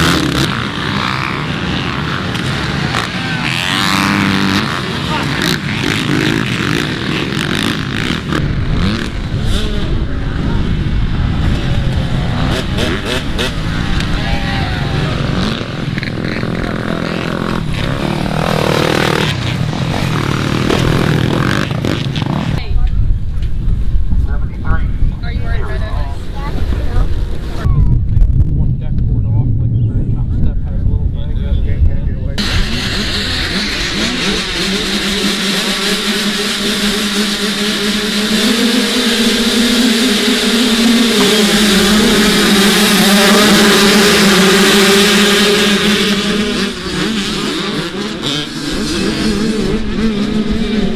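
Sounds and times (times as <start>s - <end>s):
dirt bike engines revving: 0.0s - 28.0s, 28.8s - 50.9s.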